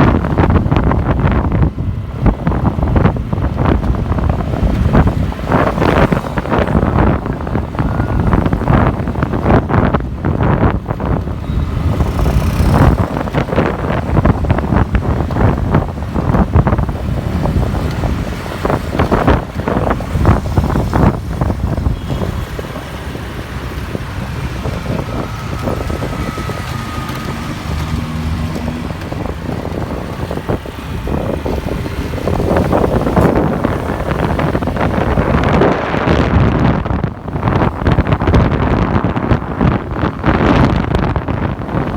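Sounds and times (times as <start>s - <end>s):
road and traffic engine noise: 0.0s - 41.9s
wind buffeting microphone: 0.0s - 41.9s.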